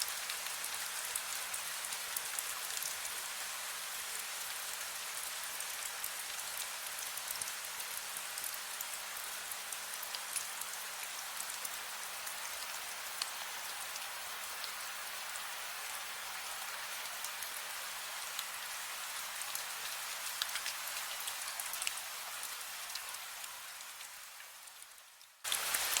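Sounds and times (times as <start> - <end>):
raindrops ticking on a surface: 0.0 - 26.0
steady rain hiss: 0.0 - 26.0.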